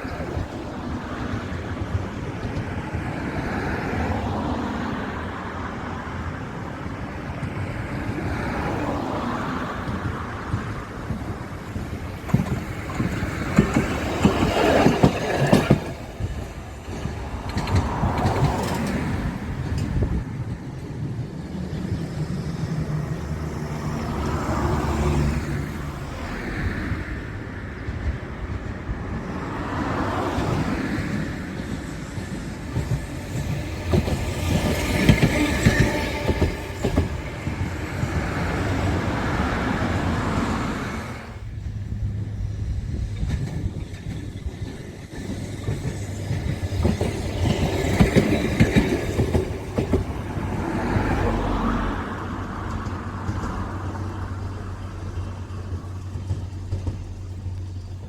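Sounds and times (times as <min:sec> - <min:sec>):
train wheel noise: 0:00.0 - 0:58.0.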